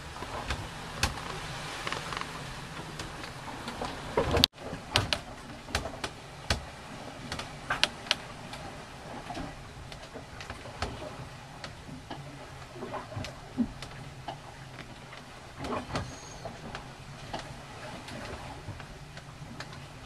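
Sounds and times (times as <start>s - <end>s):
boat cabin creaking and clicking: 0.0s - 20.0s
hiss of wind and water: 0.0s - 20.0s.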